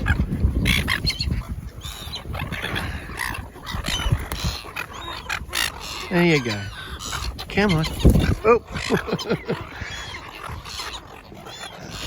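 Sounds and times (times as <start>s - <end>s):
gulls squawking: 0.0s - 12.0s.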